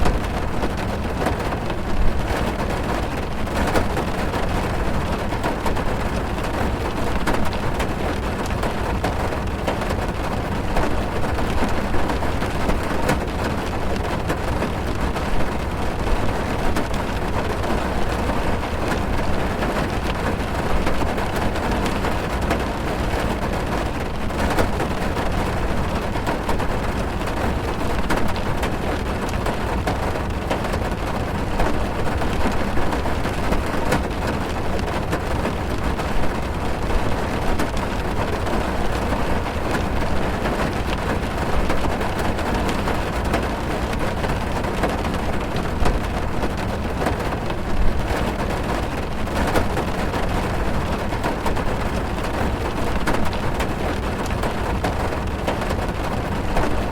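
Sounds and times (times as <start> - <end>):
rain pattering on car roof: 0.0 - 56.9.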